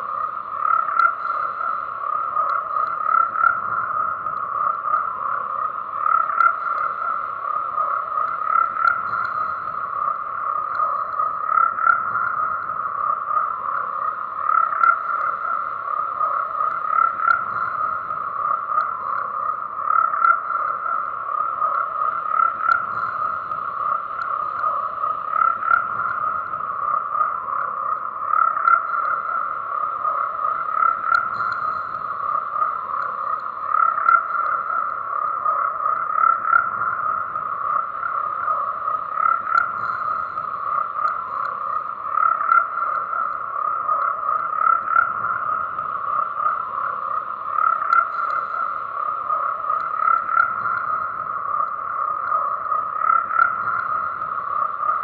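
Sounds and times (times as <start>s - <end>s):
chorus of frogs croaking: 0.0s - 55.0s.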